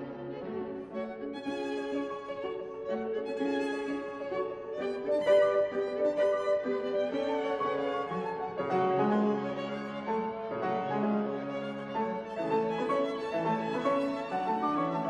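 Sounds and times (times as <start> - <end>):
bowed strings melody: 0.0 - 15.0
piano: 0.0 - 15.0.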